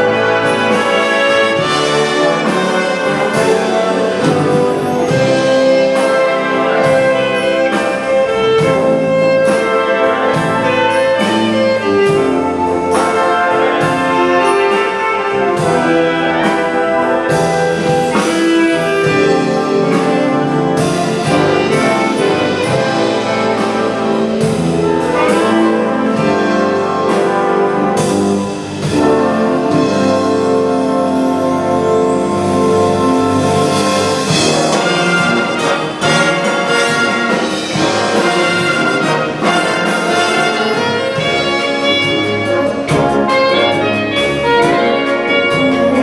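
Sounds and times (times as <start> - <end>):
wind band playing: 0.0 - 46.0.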